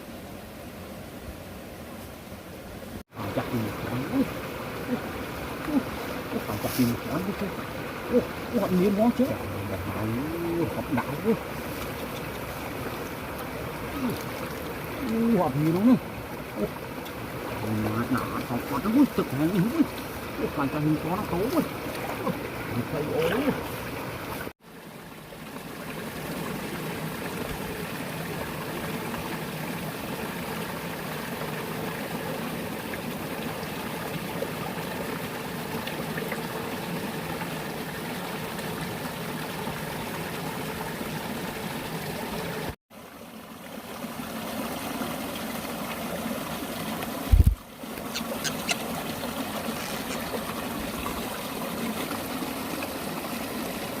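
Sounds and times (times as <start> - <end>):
water trickling: 3.0 - 54.0.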